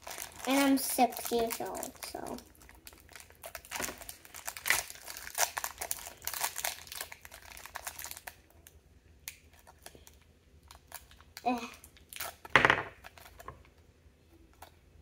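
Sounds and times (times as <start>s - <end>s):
plastic wrapper crinkling: 0.0s - 13.8s.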